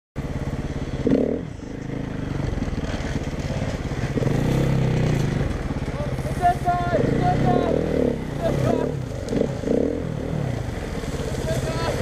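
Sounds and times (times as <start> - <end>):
dirt bike engine revving: 0.2 - 12.0.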